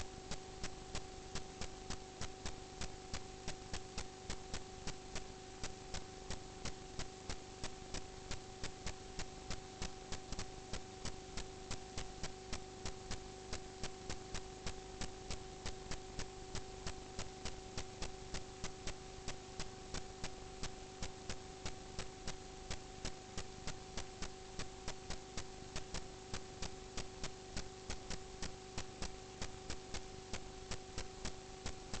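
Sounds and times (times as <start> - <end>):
ventilation system hum: 0.0 - 32.0.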